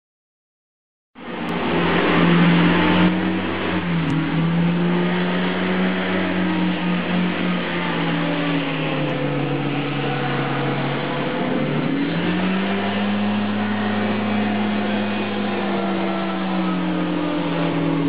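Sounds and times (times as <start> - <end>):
hovercraft engine: 1.2 - 18.0.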